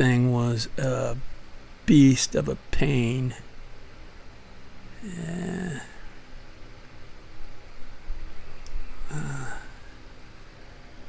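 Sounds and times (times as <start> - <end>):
faint low hum: 0.0 - 11.0
steady hiss: 0.0 - 11.0.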